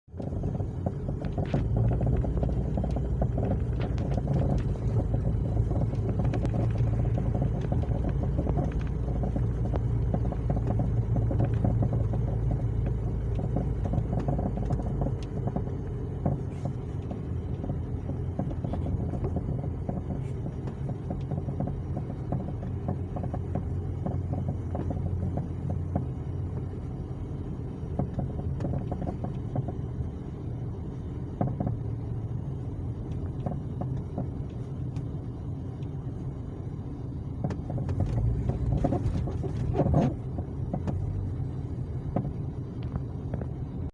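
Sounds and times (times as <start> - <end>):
car suspension creaking and clicking: 0.0 - 43.9
low road rumble: 0.0 - 43.9.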